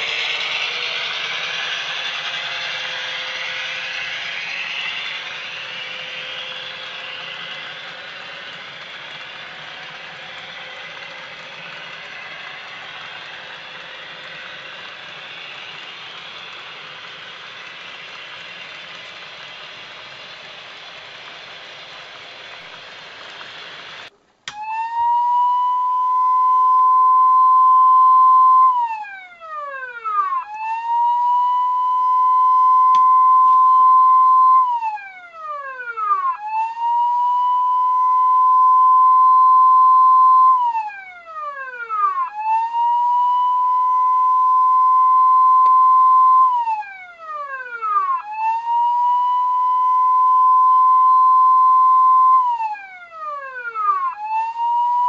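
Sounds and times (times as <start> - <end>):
industrial siren wailing: 0.0 - 16.6, 24.5 - 55.0.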